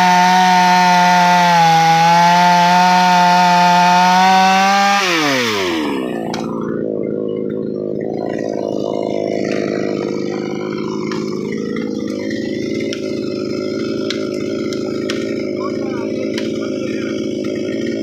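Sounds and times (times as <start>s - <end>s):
chainsaw engine idling: 0.0s - 18.0s.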